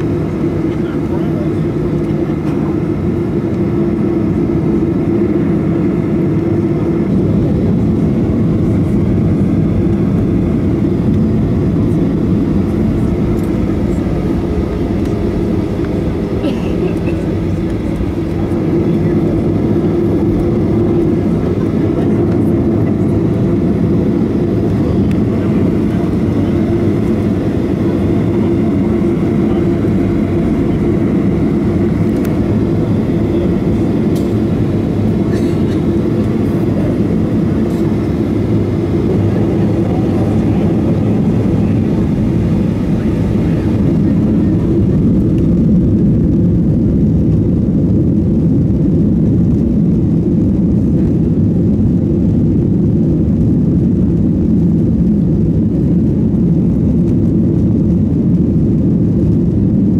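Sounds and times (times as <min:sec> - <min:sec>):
airplane cabin rumble while taxiing: 0:00.0 - 0:59.9.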